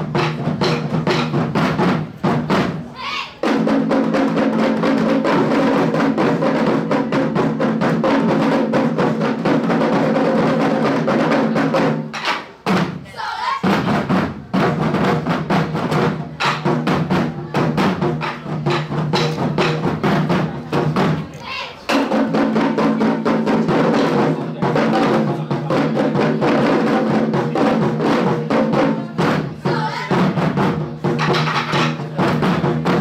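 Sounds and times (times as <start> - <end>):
taiko drums: 0.0 - 33.0.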